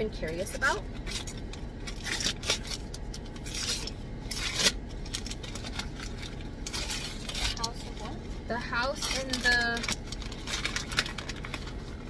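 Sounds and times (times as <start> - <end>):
paper wrapping tearing and crinkling: 0.6 - 8.2, 8.8 - 12.0.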